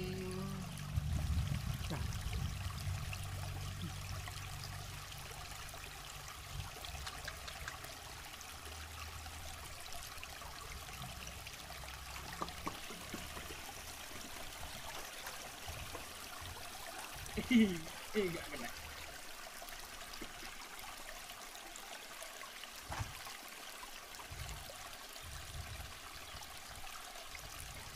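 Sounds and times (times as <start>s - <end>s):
river flowing: 0.0s - 27.9s.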